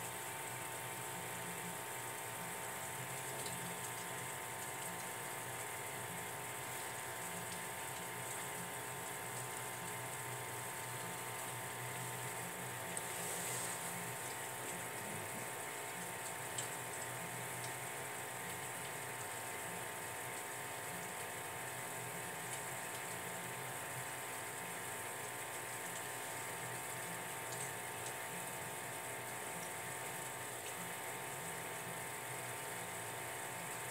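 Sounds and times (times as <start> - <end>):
aquarium hum and bubbling hiss: 0.0 - 33.9.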